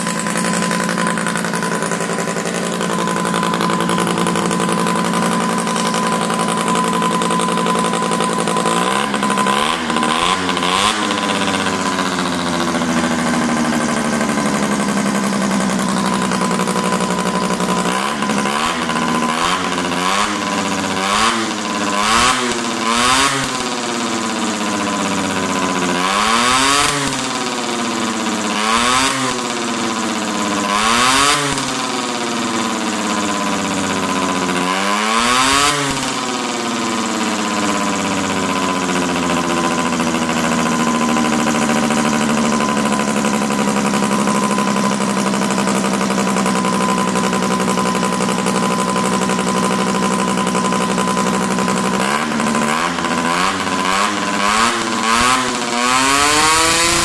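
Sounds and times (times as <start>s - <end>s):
small engine revving: 0.0s - 57.0s.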